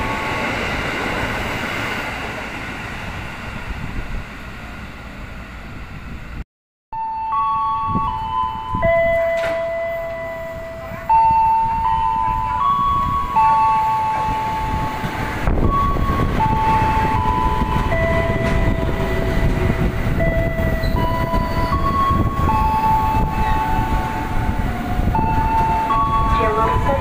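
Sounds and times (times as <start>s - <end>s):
electric train rolling rumble: 0.0s - 6.4s, 7.0s - 27.0s.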